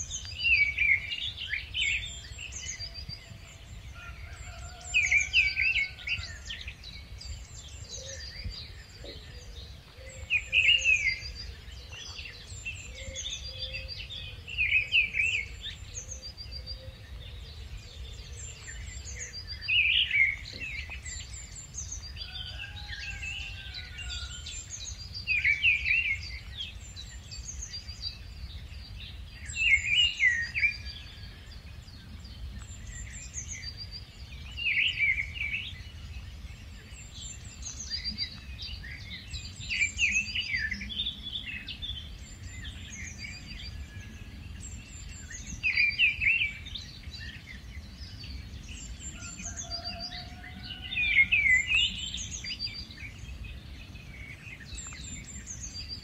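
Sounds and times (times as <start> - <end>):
bird singing phrases: 0.0 - 56.0.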